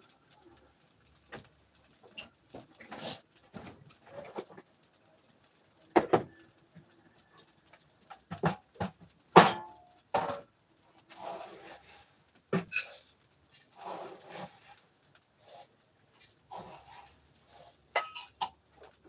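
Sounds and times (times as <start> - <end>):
rustling: 0.0 - 19.0
objects knocking and clattering: 1.0 - 14.8, 15.5 - 19.0.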